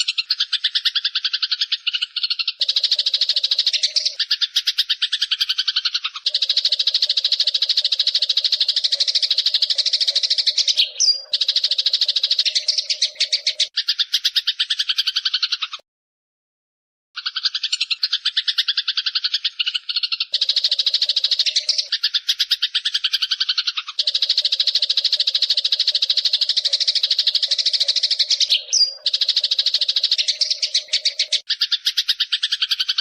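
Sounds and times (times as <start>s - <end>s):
sparrow chattering chips: 0.0s - 15.8s, 17.2s - 33.0s.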